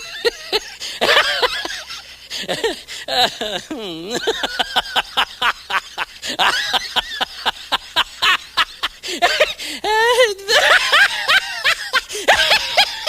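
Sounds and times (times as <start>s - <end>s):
high-pitched laughing: 0.0s - 13.0s.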